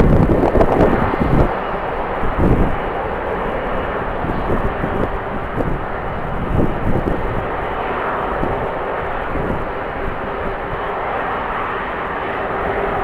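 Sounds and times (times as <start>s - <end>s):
jet engine noise: 0.0s - 13.0s
wind buffeting microphone: 0.0s - 13.0s.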